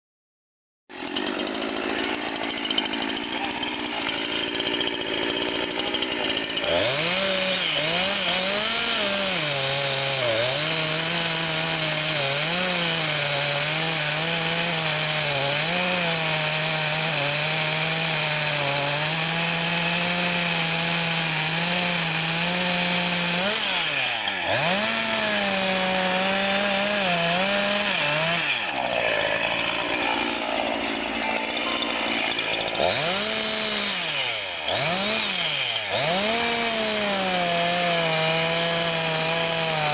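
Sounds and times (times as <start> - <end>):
chainsaw cutting wood: 0.9 - 39.9.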